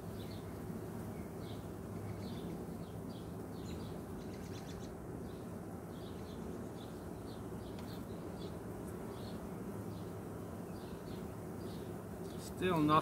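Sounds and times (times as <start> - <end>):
bees humming: 0.0 - 13.0
bird chirping: 0.2 - 12.5.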